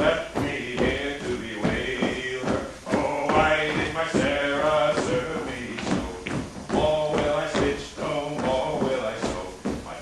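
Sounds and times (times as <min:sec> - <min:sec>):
feet stamping: 0:00.0 - 0:10.0
folk dance music: 0:00.0 - 0:10.0.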